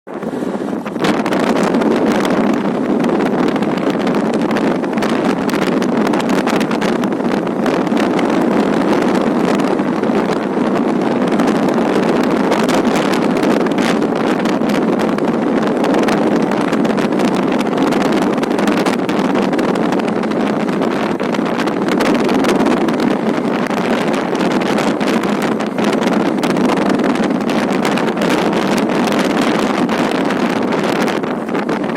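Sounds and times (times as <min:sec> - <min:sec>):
wind buffeting microphone: 0:00.1 - 0:31.9.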